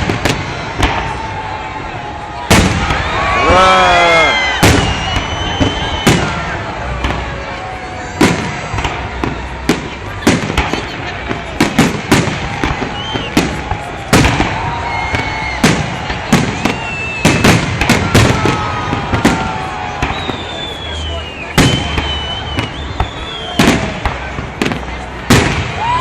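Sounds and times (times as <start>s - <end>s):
firework bursts: 0.0s - 26.0s
firework whistling: 2.4s - 26.0s.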